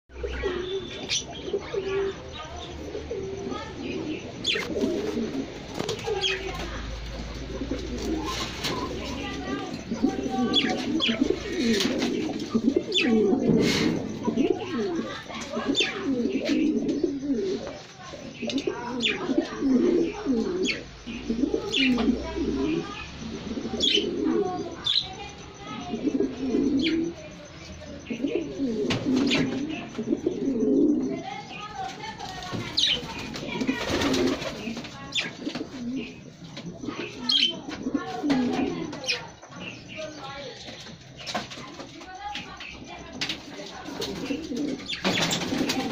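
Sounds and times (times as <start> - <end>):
pigeons cooing: 0.1 - 45.9.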